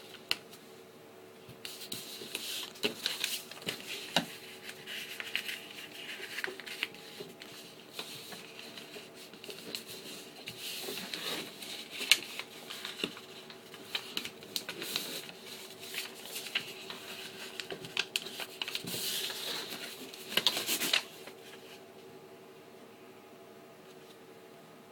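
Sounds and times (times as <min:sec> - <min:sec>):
faint steady hum: 0:00.0 - 0:24.9
paper crinkling and rustling: 0:01.6 - 0:21.8.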